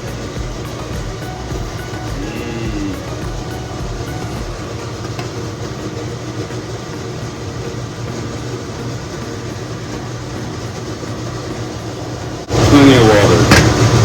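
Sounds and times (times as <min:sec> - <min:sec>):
steamer rushing at a boil: 0:00.0 - 0:14.0.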